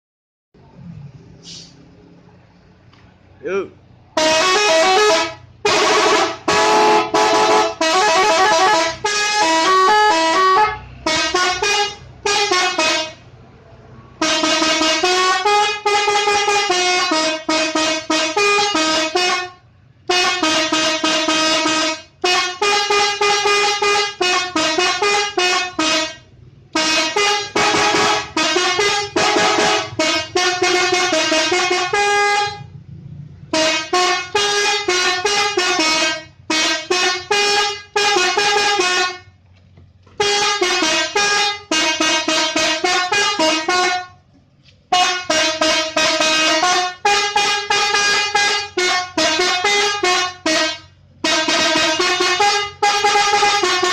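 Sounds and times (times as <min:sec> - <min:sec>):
multi-tone air horn tunes: 0:04.2 - 0:13.2, 0:14.1 - 0:32.7, 0:33.5 - 0:39.3, 0:40.2 - 0:44.2, 0:44.9 - 0:53.9.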